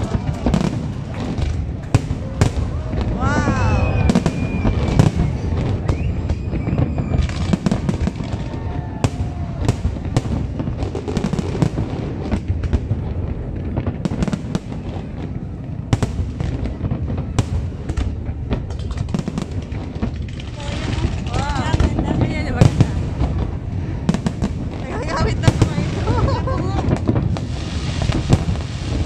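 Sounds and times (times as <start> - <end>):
fireworks bangs and crackles: 0.0 - 29.0
steady low rumble: 0.0 - 29.0.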